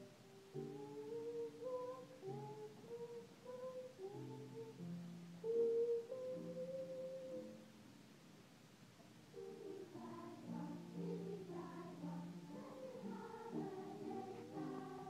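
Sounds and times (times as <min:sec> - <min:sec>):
children's choir singing: 0:00.0 - 0:04.8, 0:05.4 - 0:07.4, 0:09.4 - 0:15.0
upright piano chords: 0:00.0 - 0:07.9, 0:09.0 - 0:15.0.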